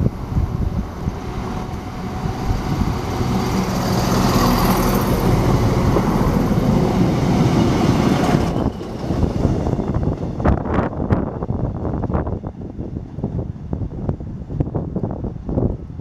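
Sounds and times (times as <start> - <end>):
train passing on rails: 0.0 - 16.0.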